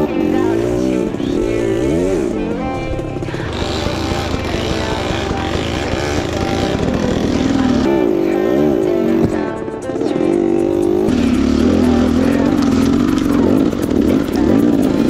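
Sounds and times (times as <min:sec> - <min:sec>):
background music: 0:00.0 - 0:15.0
dirt bike engine revving: 0:00.0 - 0:15.0.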